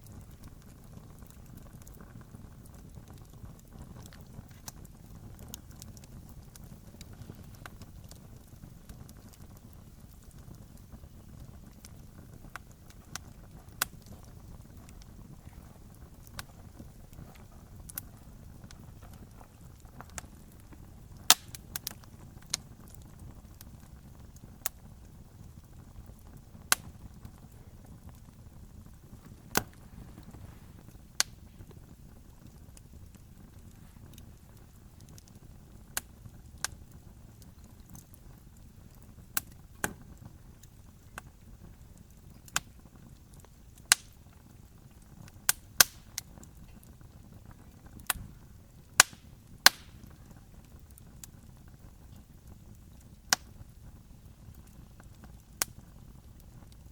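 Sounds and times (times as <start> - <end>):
campfire crackling: 0.0 - 56.9
low steady rumble: 0.0 - 56.9.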